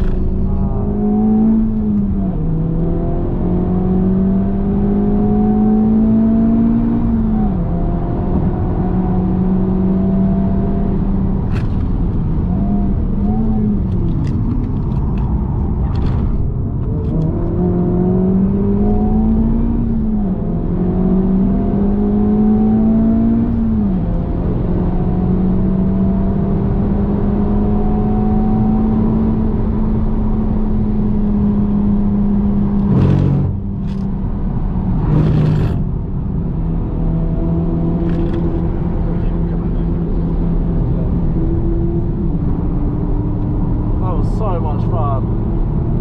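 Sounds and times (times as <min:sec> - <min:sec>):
car engine accelerating: 0:00.0 - 0:46.0.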